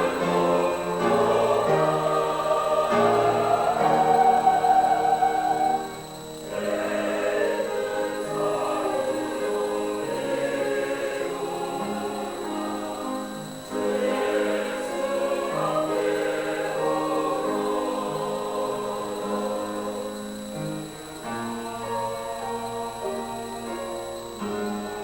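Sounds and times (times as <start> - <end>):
choir singing a hymn: 0.0 - 25.0.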